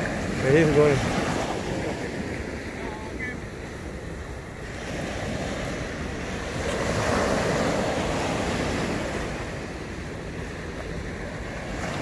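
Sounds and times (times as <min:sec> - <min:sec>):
surf washing up a beach: 0:00.0 - 0:12.0
wind rumble on microphone: 0:00.0 - 0:12.0.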